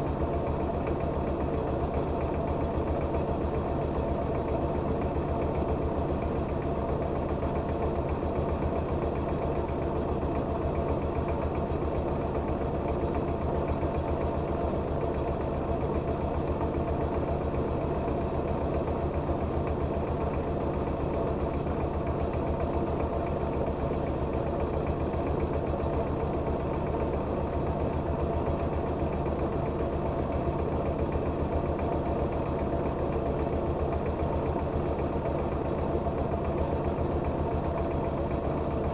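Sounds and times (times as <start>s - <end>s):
rice-milling machine engine running: 0.0s - 38.9s.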